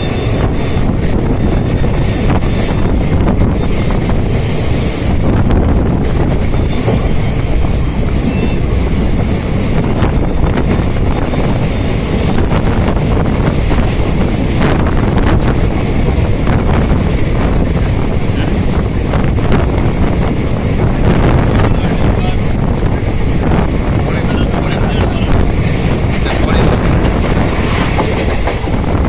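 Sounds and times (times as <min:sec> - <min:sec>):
train wheels rumbling on track: 0:00.0 - 0:29.0
wind buffeting microphone: 0:00.0 - 0:29.0.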